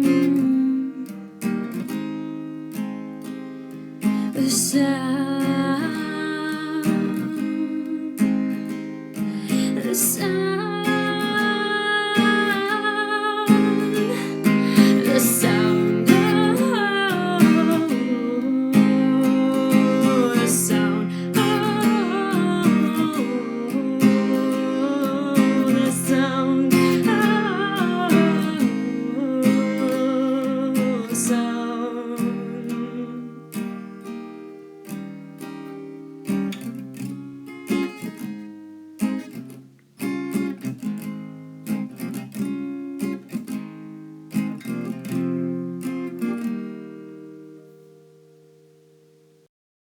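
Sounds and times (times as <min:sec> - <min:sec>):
acoustic guitar strumming: 0:00.0 - 0:49.5.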